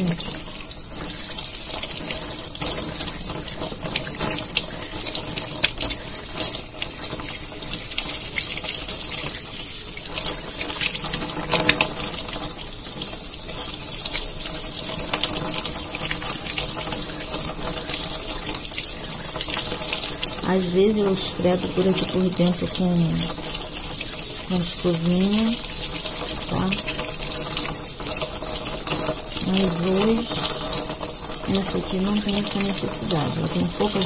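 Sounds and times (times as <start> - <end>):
tap water splashing into tub: 0.0 - 34.0.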